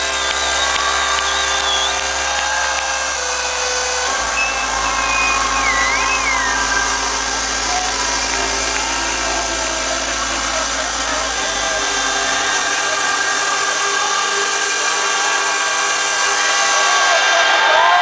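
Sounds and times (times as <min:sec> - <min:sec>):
electronic dance music: 0:00.0 - 0:17.9.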